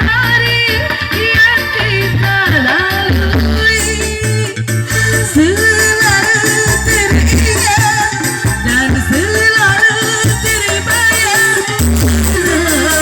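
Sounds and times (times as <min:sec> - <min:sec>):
instrumental backing with bass: 0:00.0 - 0:13.0
person singing: 0:00.0 - 0:13.0.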